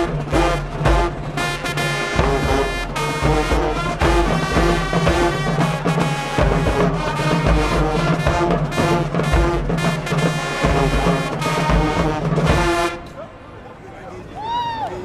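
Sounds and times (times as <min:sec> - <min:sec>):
drumline: 0:00.0 - 0:13.0
brass holding notes: 0:00.0 - 0:13.1.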